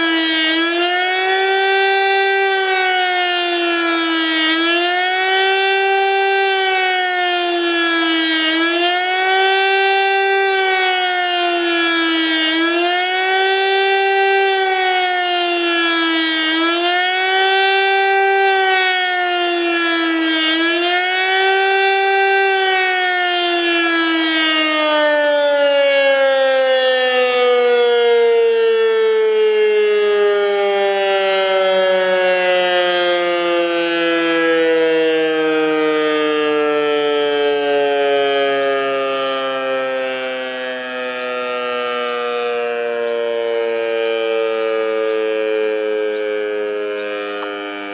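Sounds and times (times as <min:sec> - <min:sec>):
civil defence siren: 0:00.0 - 0:47.9.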